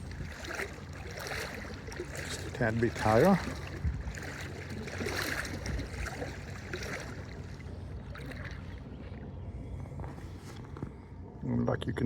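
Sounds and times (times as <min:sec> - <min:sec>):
water sloshing around wading legs: 0:00.0 - 0:11.2.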